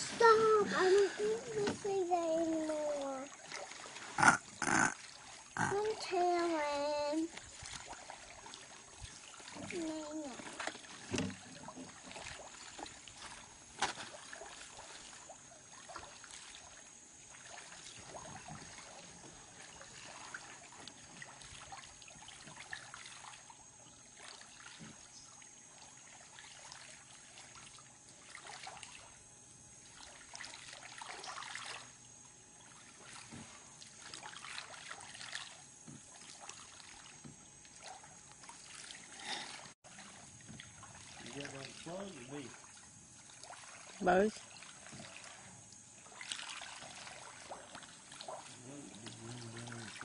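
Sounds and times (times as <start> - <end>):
creek water trickling: 0.0 - 50.0
small water splashes: 0.0 - 50.0.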